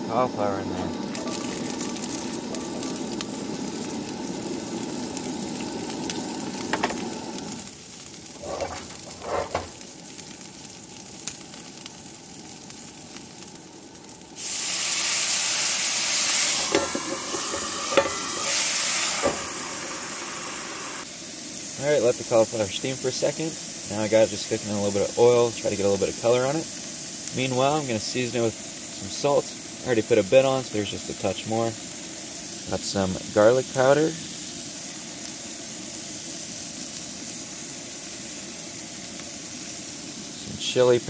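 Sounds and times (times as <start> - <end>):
steam hissing: 0.0 - 10.0, 14.2 - 41.0
vegetables sizzling in a skillet: 0.0 - 41.0.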